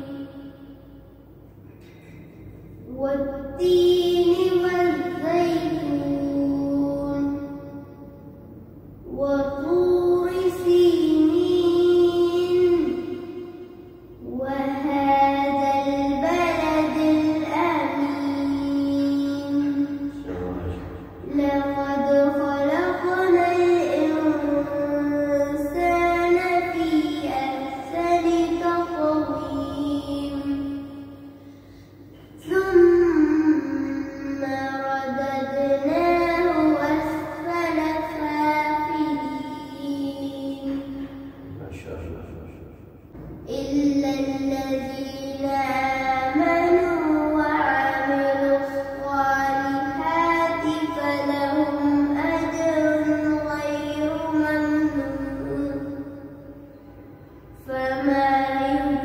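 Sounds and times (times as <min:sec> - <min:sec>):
child singing: 0:00.0 - 0:00.8, 0:02.9 - 0:07.9, 0:09.1 - 0:13.6, 0:14.2 - 0:31.3, 0:32.3 - 0:42.0, 0:43.5 - 0:56.4, 0:57.6 - 0:59.0.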